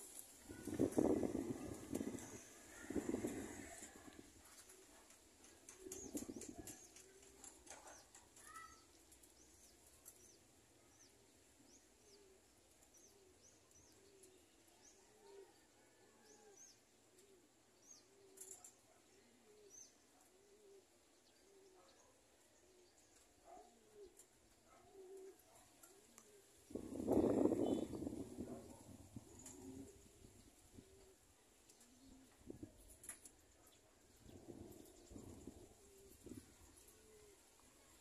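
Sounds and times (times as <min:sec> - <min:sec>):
pigeons cooing: 0:00.0 - 0:08.9, 0:11.8 - 0:38.0
small birds chirping: 0:00.0 - 0:38.0.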